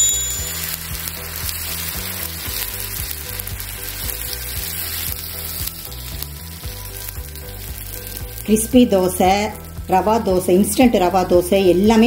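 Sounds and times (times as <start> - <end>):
batter sizzling on a hot pan: 0.0 - 12.0.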